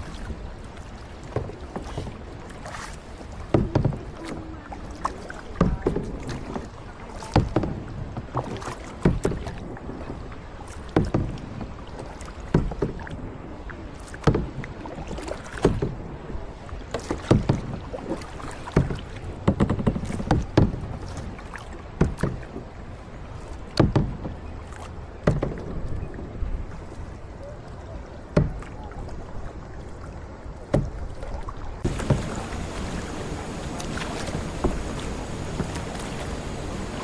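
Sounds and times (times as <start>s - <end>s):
paddle splashing in water: 0.0s - 37.0s.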